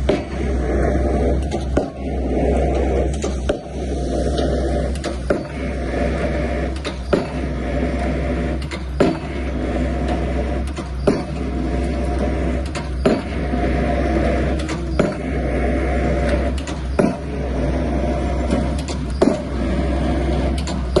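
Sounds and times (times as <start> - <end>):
pile-driving hammer blows: 0.0 - 21.0
rig engine running: 0.0 - 21.0.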